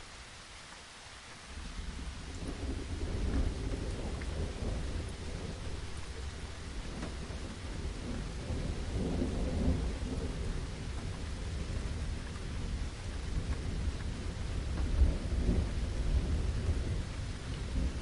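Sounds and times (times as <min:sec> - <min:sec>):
steady rain: 0:00.0 - 0:18.0
distant thunder rumbling: 0:01.6 - 0:18.0.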